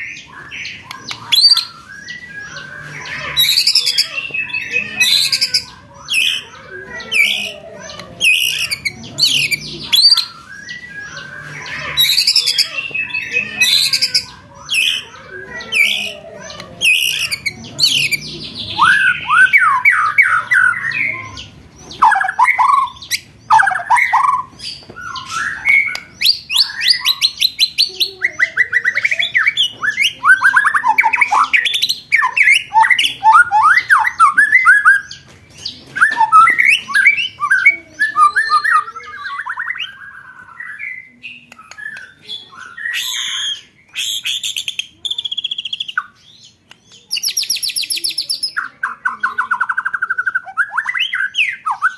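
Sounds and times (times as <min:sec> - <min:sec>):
songbird trilling: 0:00.0 - 0:44.8.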